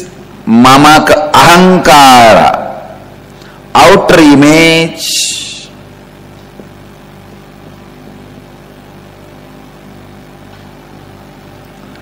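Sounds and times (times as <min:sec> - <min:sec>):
low pulsing room hum: 0:00.0 - 0:12.0.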